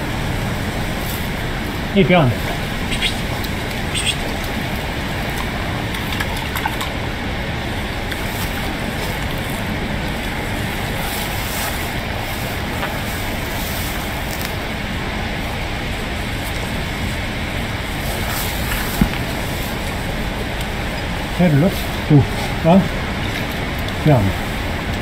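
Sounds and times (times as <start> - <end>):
rushing outdoor noise: 0.0 - 25.0.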